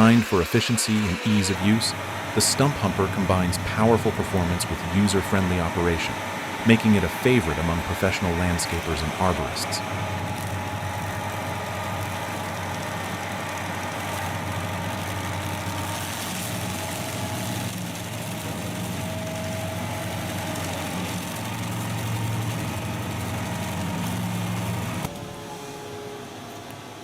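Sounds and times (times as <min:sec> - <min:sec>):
stump grinder engine running: 0:01.0 - 0:25.3.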